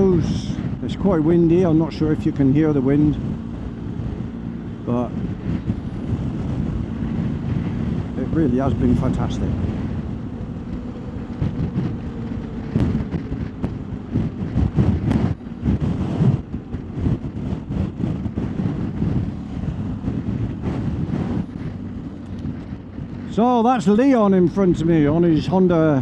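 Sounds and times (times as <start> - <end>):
motorcycle engine drone: 0.0 - 26.0
wind buffeting microphone: 0.0 - 26.0.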